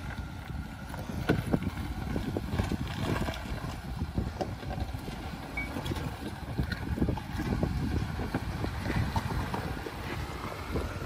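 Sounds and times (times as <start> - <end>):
off-road vehicle rumbling: 0.0 - 11.0
wind buffeting microphone: 0.0 - 11.0.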